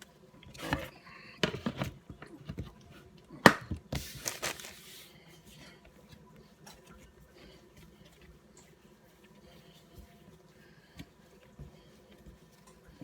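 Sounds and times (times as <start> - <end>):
hands kneading dough: 0.0 - 13.0.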